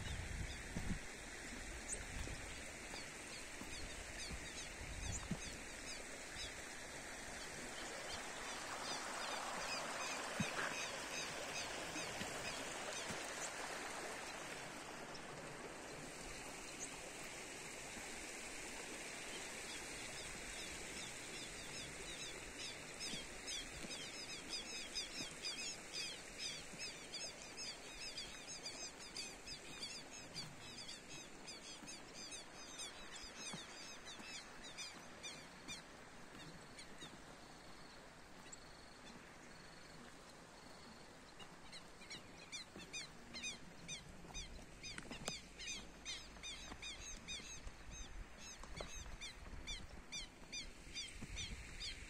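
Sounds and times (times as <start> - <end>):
stream running over rocks: 0.0 - 52.0.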